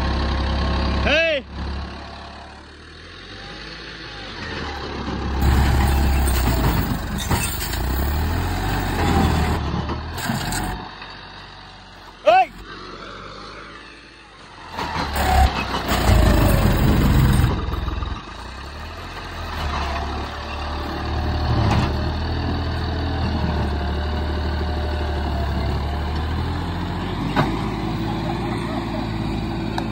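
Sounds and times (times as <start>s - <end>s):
tractor diesel engine under load: 0.0s - 29.9s.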